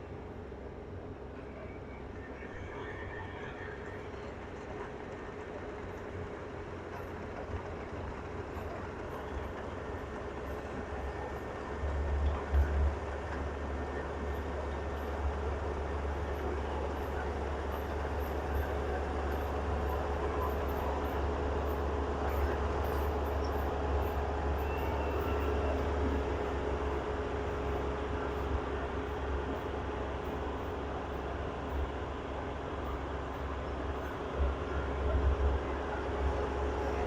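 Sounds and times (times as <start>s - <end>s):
combine harvester engine rumble: 0.0s - 37.0s.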